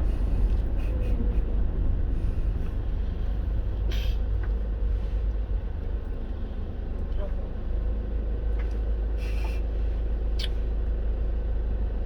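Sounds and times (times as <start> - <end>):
vehicle rumble from inside cabin: 0.0 - 12.0.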